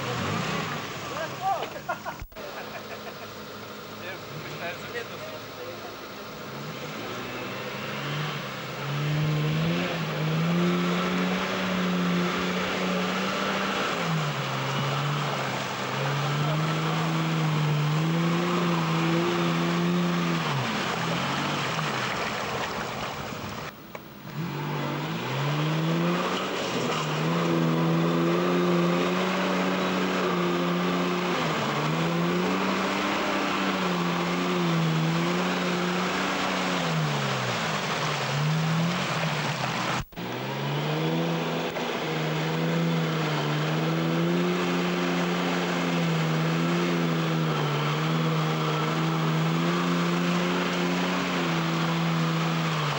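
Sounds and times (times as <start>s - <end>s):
truck engine labouring in mud: 0.0s - 52.9s.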